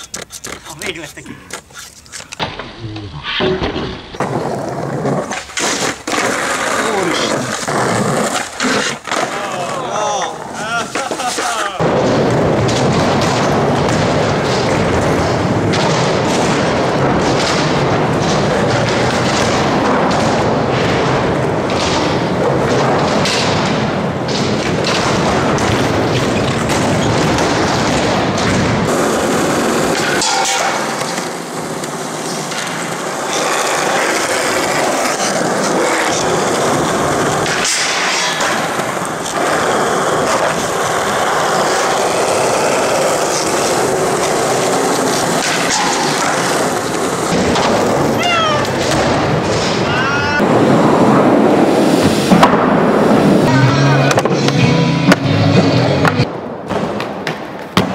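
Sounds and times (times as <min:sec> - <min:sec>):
skateboard wheels rolling: 0:00.0 - 0:57.9
skateboard pops and landings: 0:03.4 - 0:49.9, 0:50.5 - 0:57.9.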